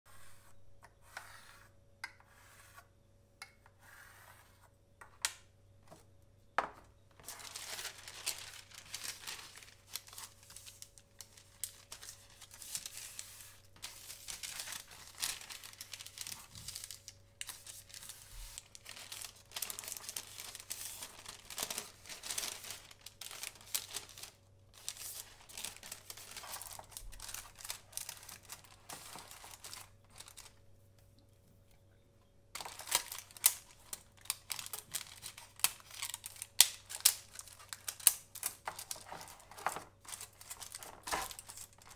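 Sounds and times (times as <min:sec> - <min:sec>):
parchment paper rustling: 0:05.9 - 0:31.0, 0:32.5 - 0:41.9.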